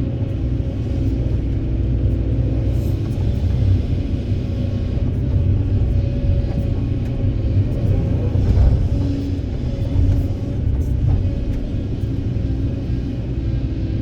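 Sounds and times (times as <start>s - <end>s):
heavy diesel engines rumbling: 0.0s - 14.0s.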